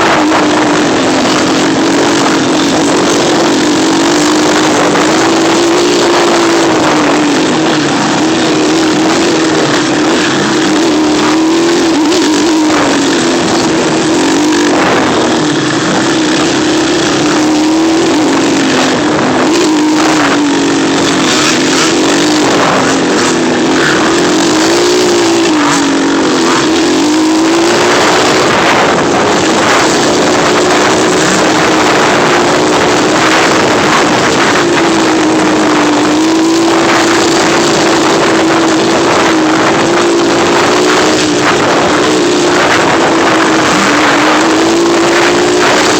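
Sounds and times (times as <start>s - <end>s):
off-road engine revving: 0.0s - 45.9s.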